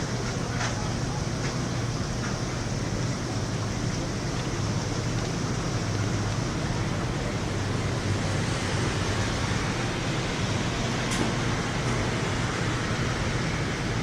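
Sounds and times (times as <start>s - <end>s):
rain rushing: 0.0s - 14.0s.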